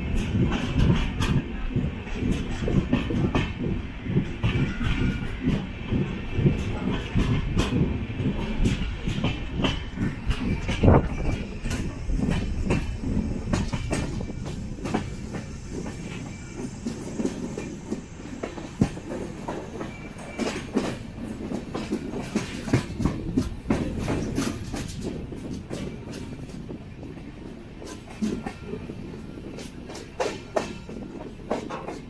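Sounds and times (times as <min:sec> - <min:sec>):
train rumbling: 0:00.0 - 0:32.0
wheels clicking over rail joints: 0:00.0 - 0:32.0.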